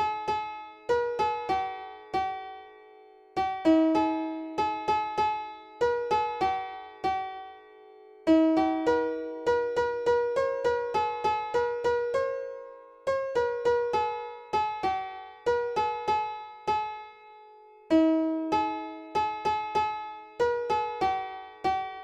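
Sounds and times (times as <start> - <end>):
piano playing slow melody: 0.0 - 22.0.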